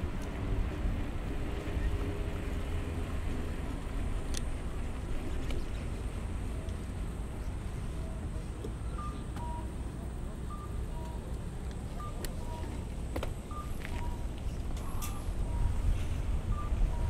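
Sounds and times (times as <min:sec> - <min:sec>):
low traffic hum: 0:00.0 - 0:17.0.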